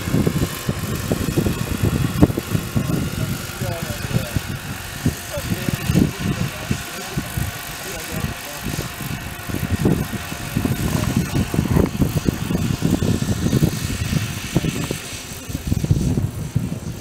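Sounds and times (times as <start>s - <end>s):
distant model helicopter whine: 0.0s - 17.0s
wind buffeting microphone: 0.0s - 17.0s.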